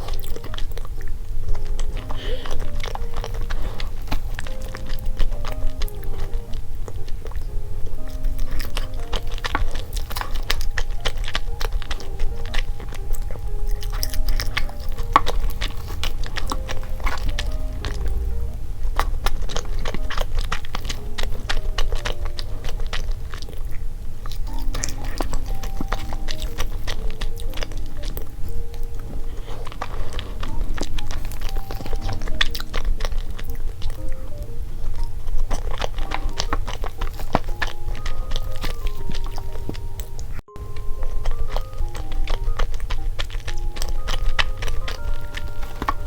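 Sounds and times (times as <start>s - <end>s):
chewing and wet mouth clicks: 0.0s - 46.0s
light background music: 0.0s - 46.0s.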